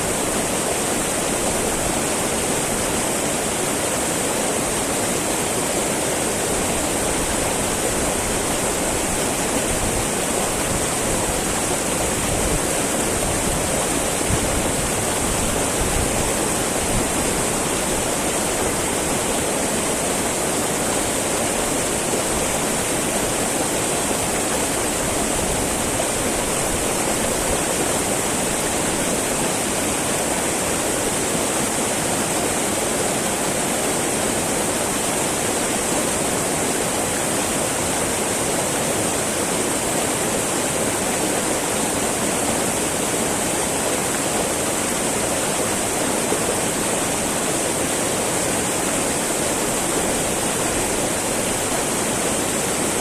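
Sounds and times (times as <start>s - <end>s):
river babbling over rocks: 0.0s - 53.0s.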